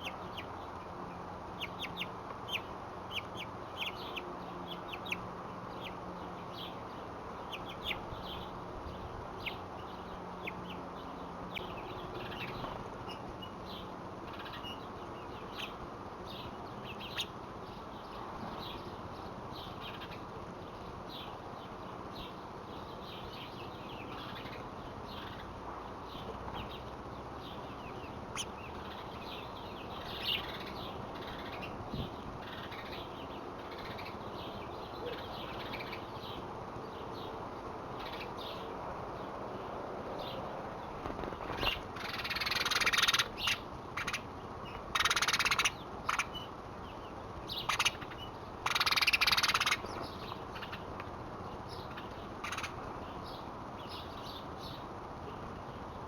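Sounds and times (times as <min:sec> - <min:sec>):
small birds chirping: 0:00.0 - 0:56.0
steady background hiss: 0:00.0 - 0:56.0.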